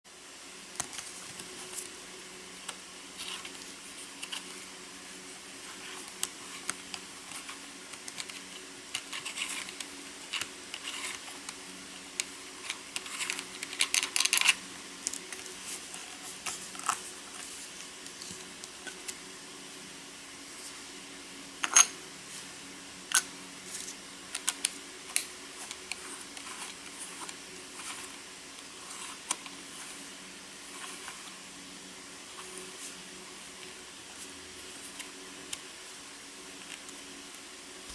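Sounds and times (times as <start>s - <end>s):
steady low hum: 0.1s - 37.9s.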